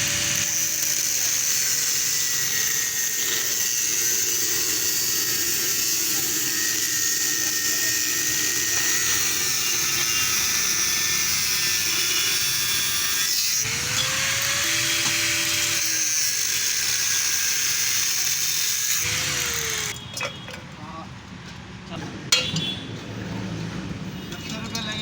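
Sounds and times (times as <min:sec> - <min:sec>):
angle grinder cutting metal: 0:00.0 - 0:20.0.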